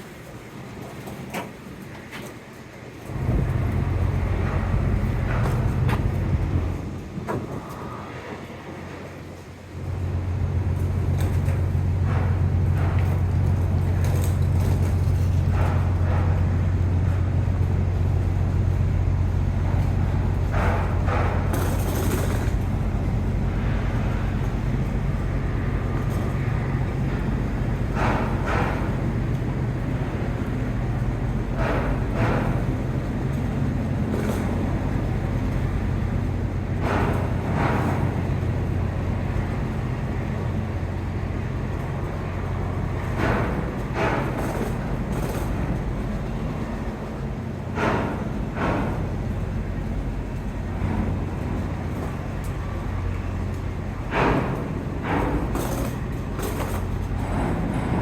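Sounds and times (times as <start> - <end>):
ferry engines humming: 0.0 - 58.0
wind and water noise: 0.0 - 58.0.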